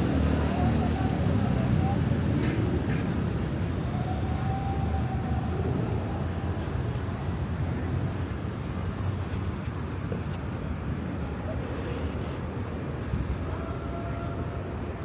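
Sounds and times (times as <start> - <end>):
faint urban hum: 0.0 - 15.0
low rumble of city traffic: 0.0 - 15.0.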